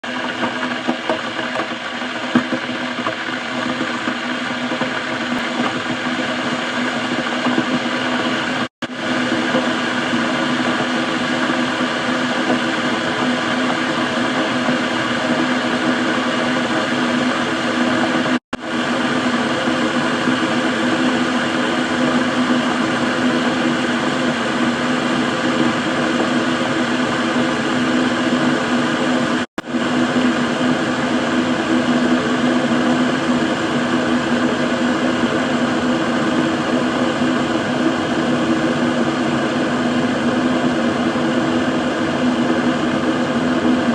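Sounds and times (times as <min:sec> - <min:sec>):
kettle hum: 0:00.0 - 0:43.9
water boiling in a kettle: 0:00.0 - 0:43.9.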